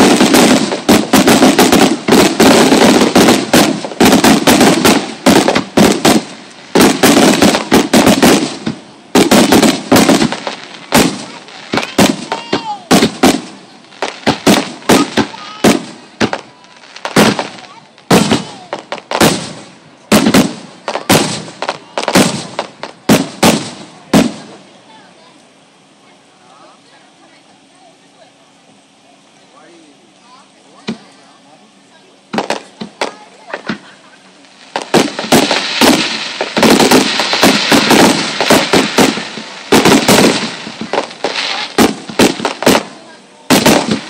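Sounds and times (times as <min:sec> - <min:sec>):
firework shells bursting: 0:00.0 - 0:24.6, 0:32.3 - 0:44.0.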